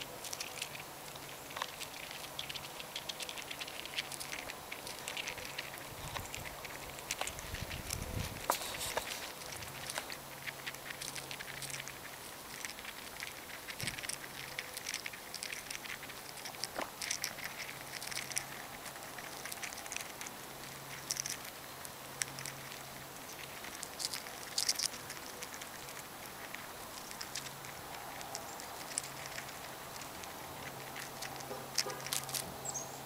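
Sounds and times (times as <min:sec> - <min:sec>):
seed shells clicking and crackling: 0:00.0 - 0:33.0.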